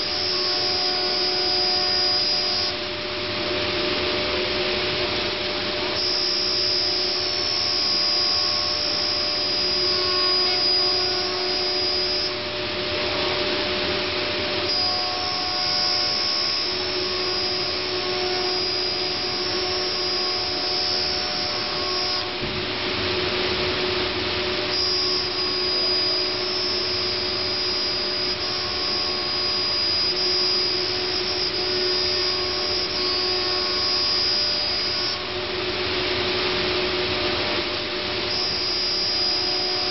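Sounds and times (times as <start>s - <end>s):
cnc router whining: 0.0s - 39.9s.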